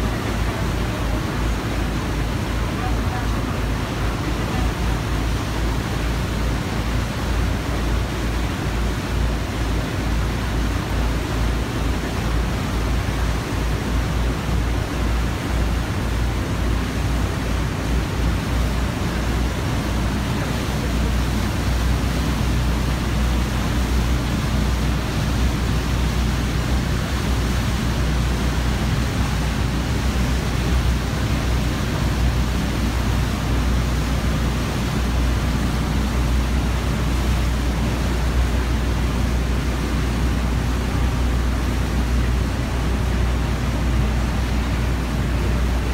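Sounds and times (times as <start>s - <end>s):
churning wake: 0.0s - 45.9s
motorboat engine drone: 0.0s - 45.9s.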